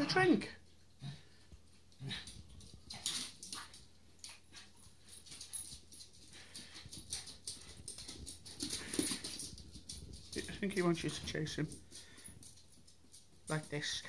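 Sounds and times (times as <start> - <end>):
dog claws clicking on tiles: 1.6 - 14.0.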